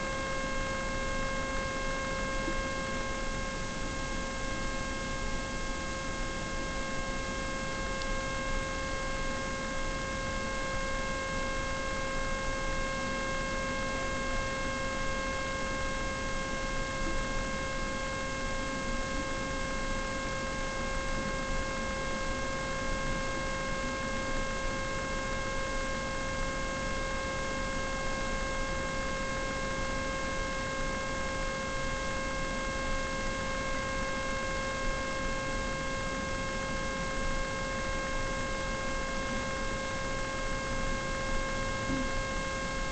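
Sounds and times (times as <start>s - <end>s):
constant multi-tone whine: 0.0s - 42.9s.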